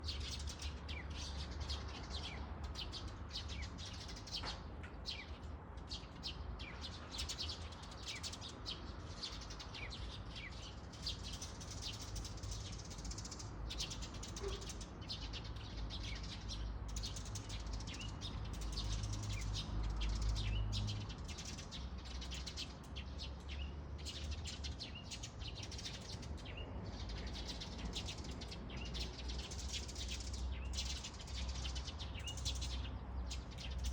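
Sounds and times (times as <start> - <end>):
flock of small birds chirping: 0.0 - 33.9.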